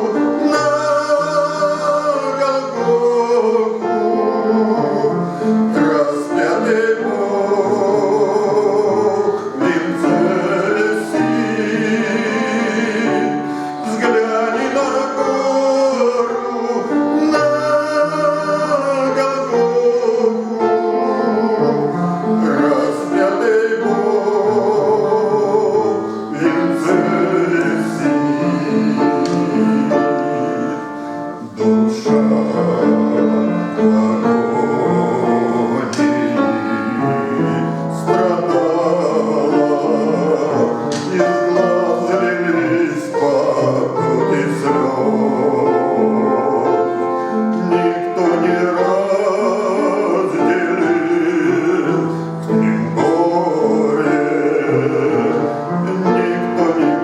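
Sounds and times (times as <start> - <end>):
instrumental accompaniment: 0.0 - 57.0
man singing a hymn: 0.0 - 57.0.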